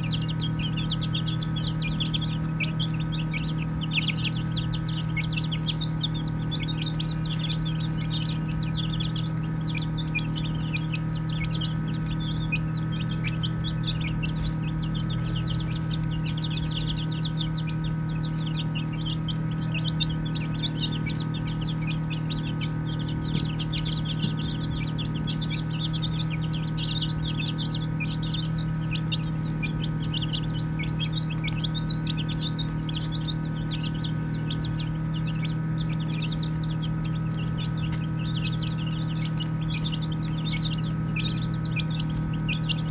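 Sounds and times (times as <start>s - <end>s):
baby chicks peeping: 0.0s - 42.9s
steady low hum: 0.0s - 42.9s.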